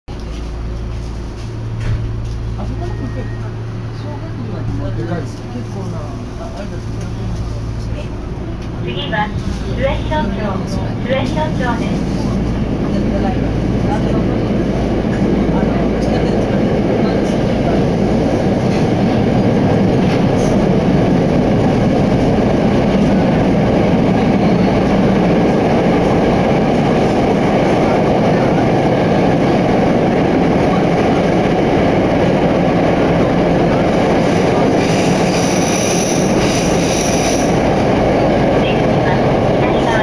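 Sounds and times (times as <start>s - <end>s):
subway train wheels rumbling: 0.1s - 40.0s.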